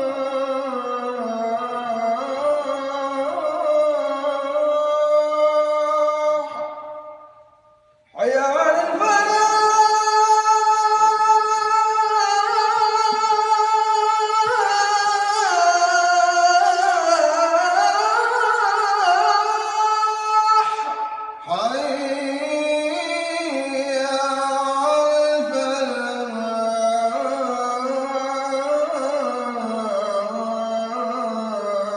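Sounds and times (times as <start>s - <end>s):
solo voice chanting: 0.0s - 31.9s.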